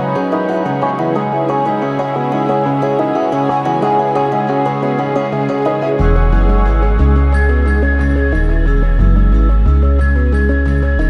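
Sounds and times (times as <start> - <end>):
calm new-age melody: 0.0 - 11.0.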